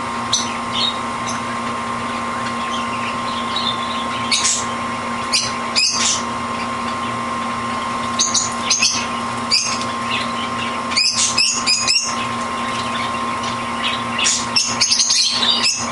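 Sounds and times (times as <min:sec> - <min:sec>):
steady background hum: 0:00.0 - 0:15.9.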